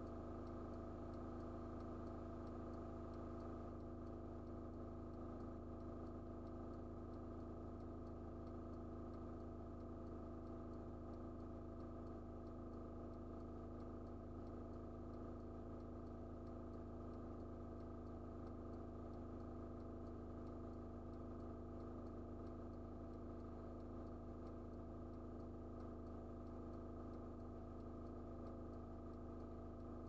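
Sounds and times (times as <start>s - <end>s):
faint regular ticking: 0.0s - 30.0s.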